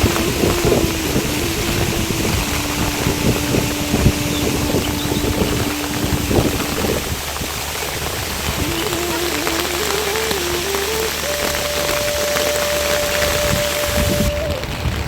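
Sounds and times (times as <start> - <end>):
thin tone changing pitch: 0.0 - 14.7
steady rain: 0.0 - 15.0.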